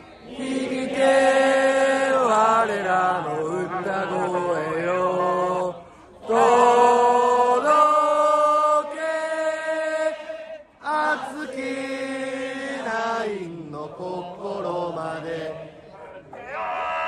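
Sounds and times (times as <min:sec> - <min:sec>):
crowd singing in unison: 0:00.0 - 0:17.0.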